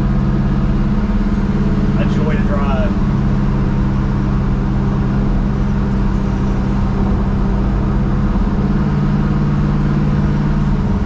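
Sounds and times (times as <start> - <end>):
pickup engine cruising: 0.0 - 11.0
road noise: 0.0 - 11.0.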